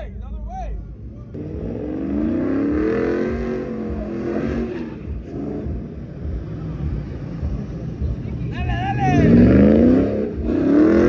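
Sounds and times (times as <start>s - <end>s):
truck engine revving: 0.9s - 11.0s.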